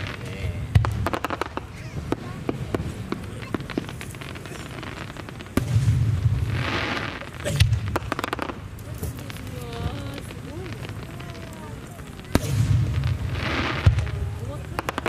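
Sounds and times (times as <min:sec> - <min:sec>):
crackling firework pops: 0:00.0 - 0:15.0
firework shells bursting: 0:00.0 - 0:15.0.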